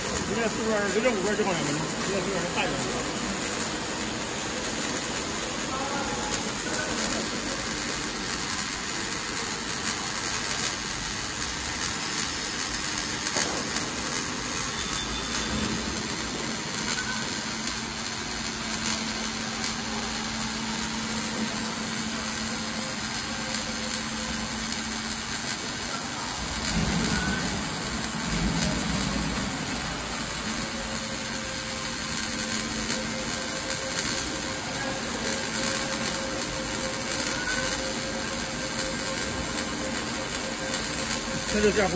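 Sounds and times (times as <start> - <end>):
welding arc crackling and hissing: 0.0 - 41.9.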